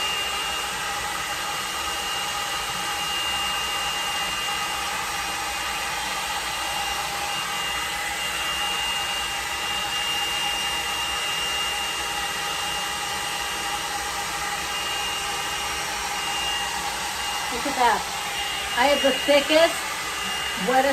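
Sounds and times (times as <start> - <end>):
blow dryer brush running: 0.0 - 20.9.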